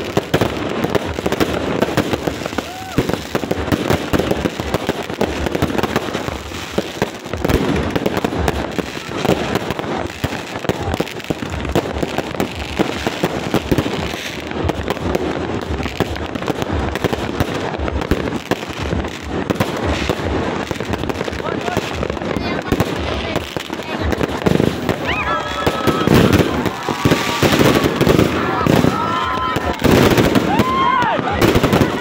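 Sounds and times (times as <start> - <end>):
fireworks popping and banging: 0.0 - 32.0.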